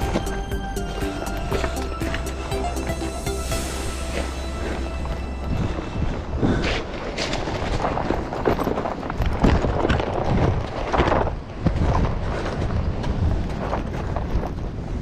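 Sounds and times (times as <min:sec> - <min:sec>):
footsteps crunching on stones: 0:00.0 - 0:14.6.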